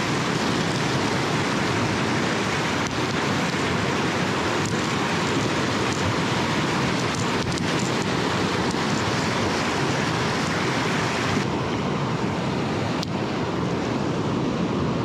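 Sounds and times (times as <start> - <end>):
river rapids rushing over rocks: 0.0 - 15.0.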